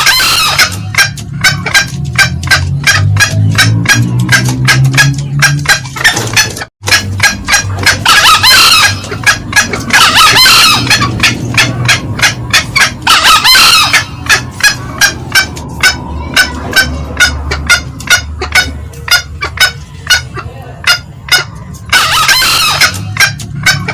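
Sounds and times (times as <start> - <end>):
junglefowl crowing bursts: 0.0 - 4.8, 5.6 - 20.2, 21.9 - 23.9
junglefowl cackling: 0.0 - 23.9.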